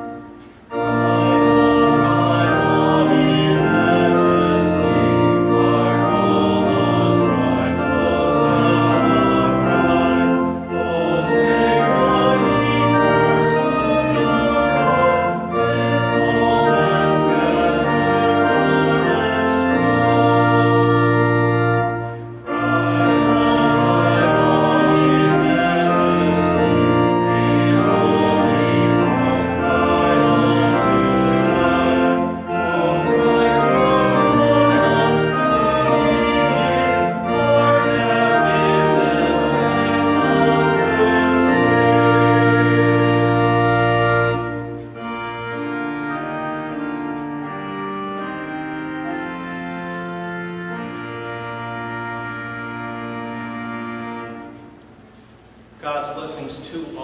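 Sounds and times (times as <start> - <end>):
church organ playing a hymn: 0.0 - 57.0.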